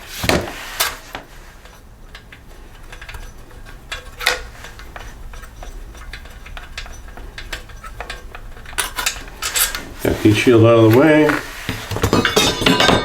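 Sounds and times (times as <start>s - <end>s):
wrench and bolts clinking: 0.8s - 13.0s.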